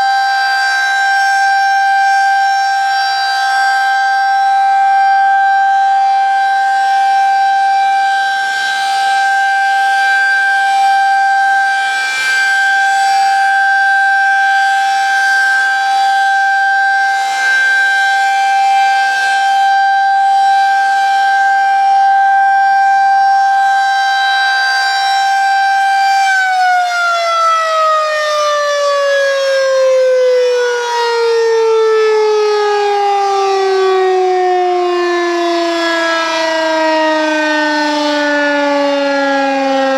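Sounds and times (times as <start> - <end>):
tornado siren winding down: 0.0 - 39.9.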